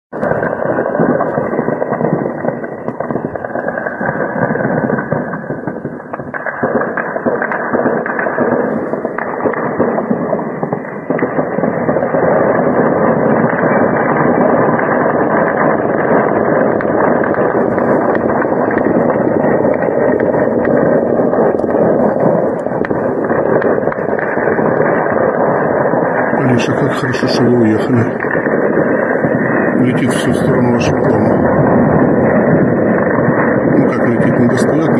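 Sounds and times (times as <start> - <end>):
rapid gunfire: 0.2 - 34.9.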